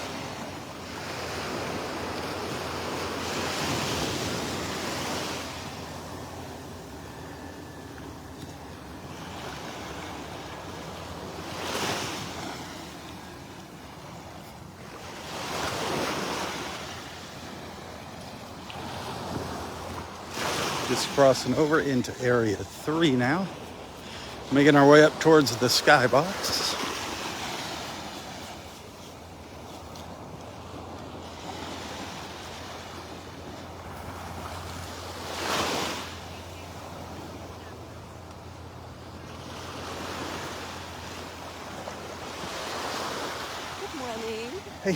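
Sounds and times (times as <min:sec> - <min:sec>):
surf washing up on beach: 0:00.0 - 0:44.9.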